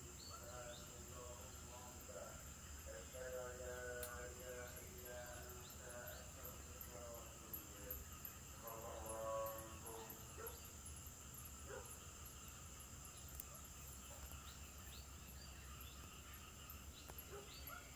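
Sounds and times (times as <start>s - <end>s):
high-pitched insect chirping: 0.0s - 17.9s
distant dogs barking: 1.8s - 14.8s, 16.1s - 17.9s.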